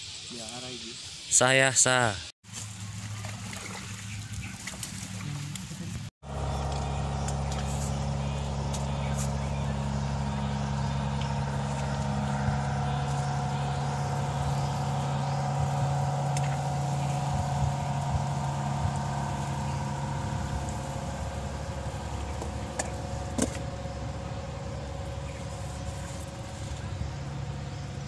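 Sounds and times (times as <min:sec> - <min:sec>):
engine humming: 0:02.5 - 0:28.0.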